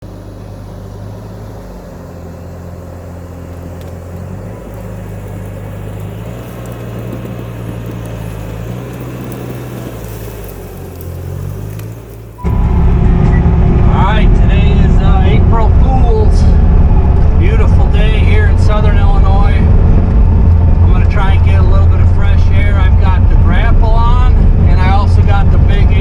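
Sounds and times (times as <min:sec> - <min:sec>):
loader diesel engine running: 0:00.0 - 0:26.0.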